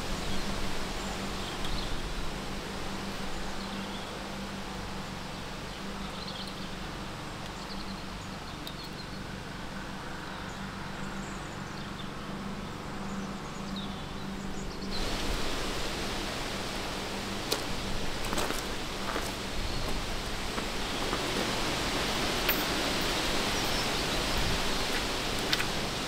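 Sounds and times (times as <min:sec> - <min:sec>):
outdoor ambient hiss: 0:00.0 - 0:26.0.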